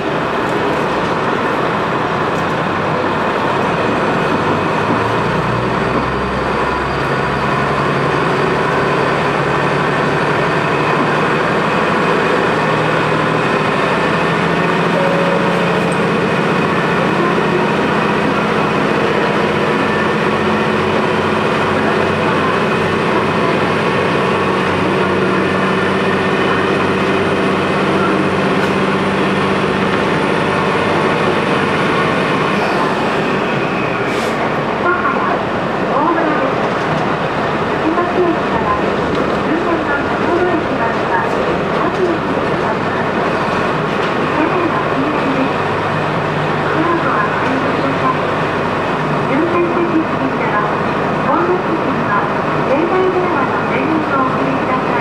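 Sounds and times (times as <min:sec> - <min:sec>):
diesel railcar engine drone: 0:00.0 - 0:55.0
rail running noise: 0:00.0 - 0:55.0.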